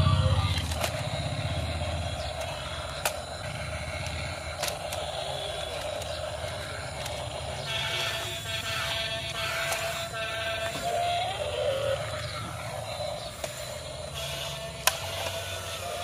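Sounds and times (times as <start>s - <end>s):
toy excavator motor drone: 0.0s - 16.0s
sharp clicks: 0.4s - 16.0s.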